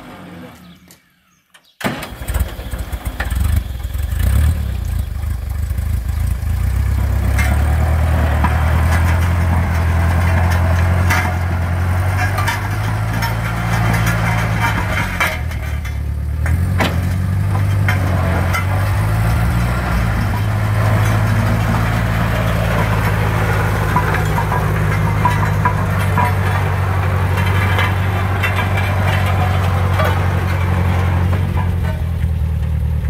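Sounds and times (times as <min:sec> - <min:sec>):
road roller engine running: 0:00.0 - 0:00.8, 0:02.0 - 0:33.0.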